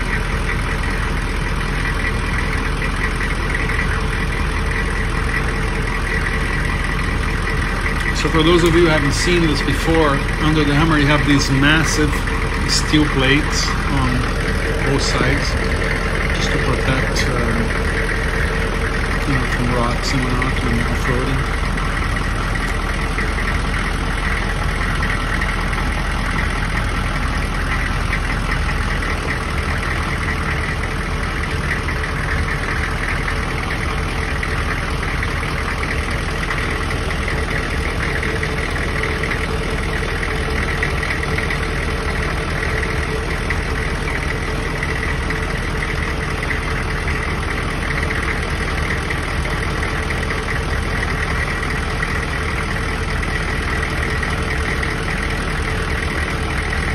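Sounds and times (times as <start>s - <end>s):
mechanical drone: 0.0s - 56.9s.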